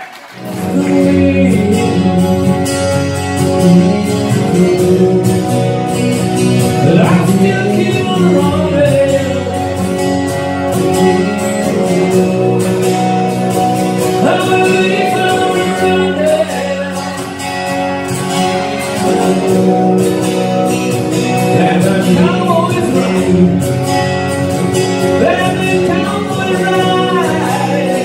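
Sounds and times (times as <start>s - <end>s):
acoustic guitars strumming: 0.3s - 28.0s
man singing: 0.4s - 17.8s, 18.6s - 20.2s, 21.2s - 28.0s.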